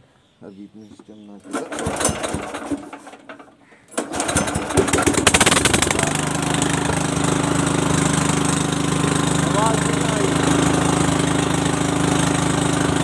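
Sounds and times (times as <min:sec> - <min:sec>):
generator engine starting and running: 0:01.4 - 0:13.0.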